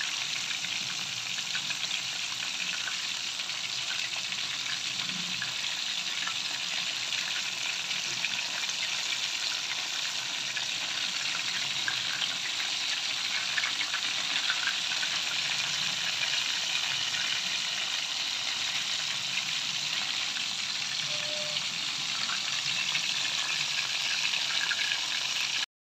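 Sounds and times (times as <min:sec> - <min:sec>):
fish sizzling in hot oil: 0:00.0 - 0:25.7.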